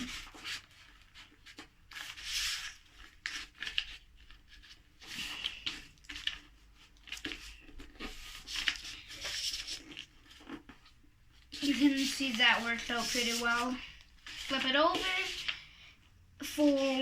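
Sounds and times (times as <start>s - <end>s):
paper rustling and scraping: 0.0s - 15.8s.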